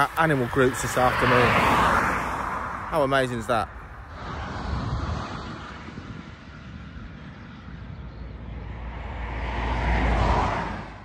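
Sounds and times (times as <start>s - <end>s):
vehicle passing loudly: 0.0s - 3.2s, 3.9s - 11.0s
traffic on busy road: 0.0s - 11.0s.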